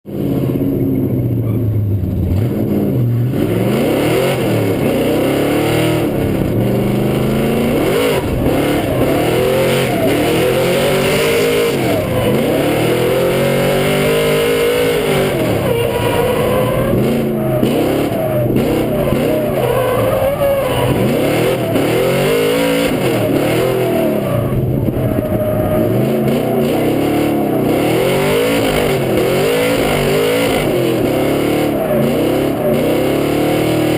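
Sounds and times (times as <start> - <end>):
car engine revving hard: 0.1 - 33.9.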